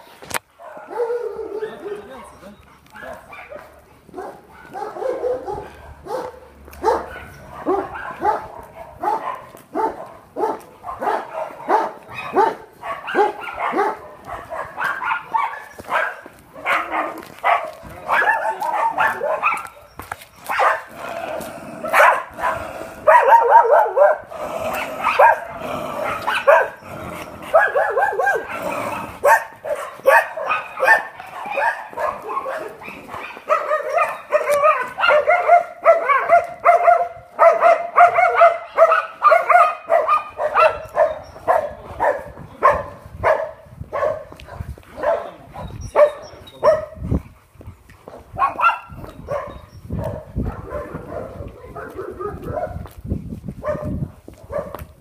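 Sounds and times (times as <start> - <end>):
dog barking: 0.6 - 19.8, 20.5 - 21.2, 21.8 - 26.8, 27.5 - 47.0, 48.1 - 52.9, 53.6 - 54.9.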